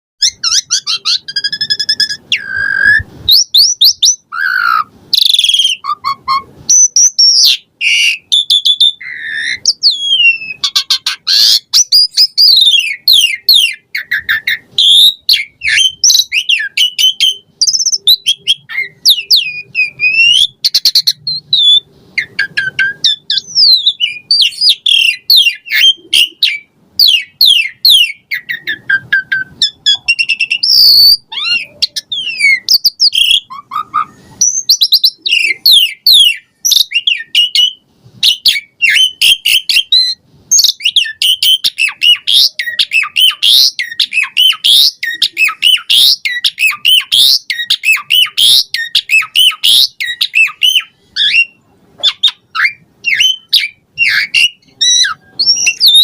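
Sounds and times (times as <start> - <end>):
bird singing varied song: 0.2 - 56.0.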